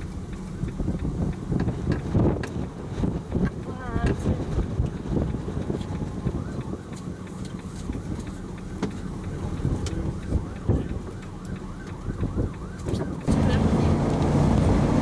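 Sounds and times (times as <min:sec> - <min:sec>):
road noise: 0:00.0 - 0:15.0
vehicle engine rumble: 0:00.0 - 0:15.0
wind: 0:00.0 - 0:15.0.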